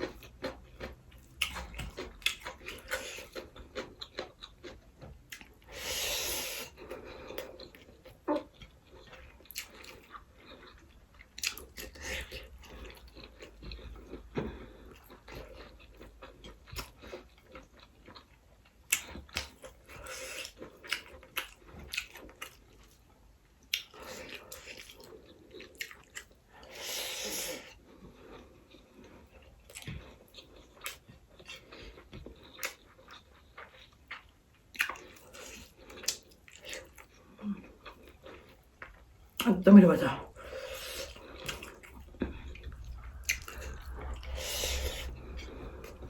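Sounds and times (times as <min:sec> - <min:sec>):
chewing and biting food: 0:00.0 - 0:26.8, 0:27.5 - 0:39.4, 0:40.4 - 0:46.0.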